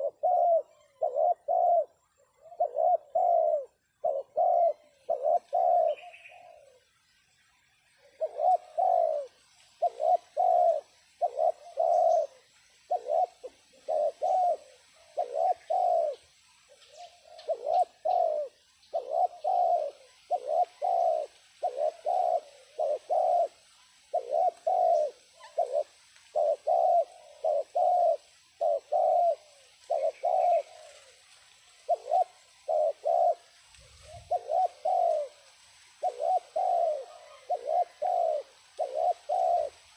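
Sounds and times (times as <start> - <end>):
dove cooing: 0.0 - 7.0, 8.0 - 39.9
faint bird chirp: 0.0 - 39.9.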